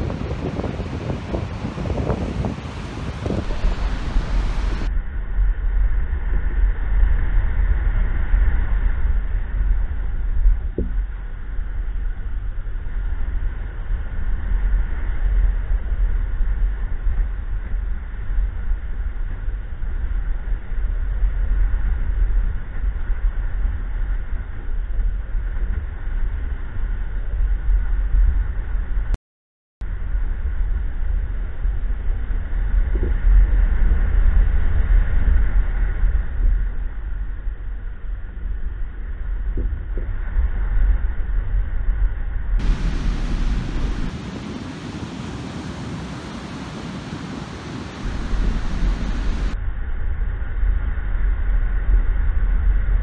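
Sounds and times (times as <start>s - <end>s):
wind buffeting microphone: 0.0s - 29.1s, 30.0s - 53.0s.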